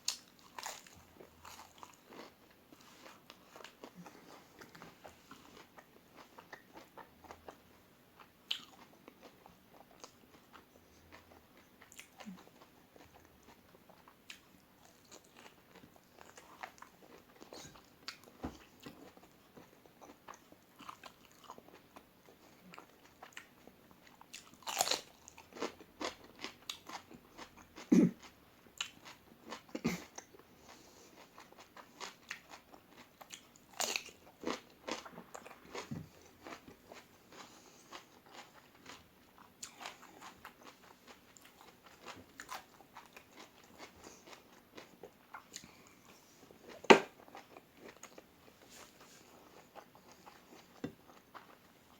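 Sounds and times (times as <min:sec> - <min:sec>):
chewing and crunching: 0:00.0 - 0:51.9.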